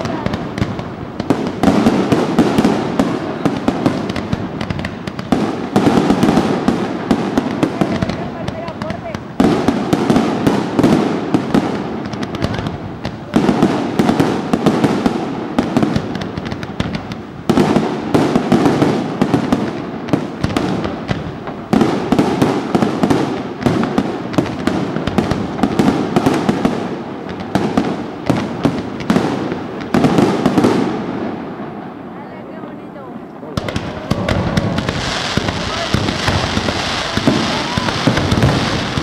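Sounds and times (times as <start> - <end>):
fireworks bangs and crackling: 0.0 - 39.0
loud firework salvo: 0.0 - 39.0.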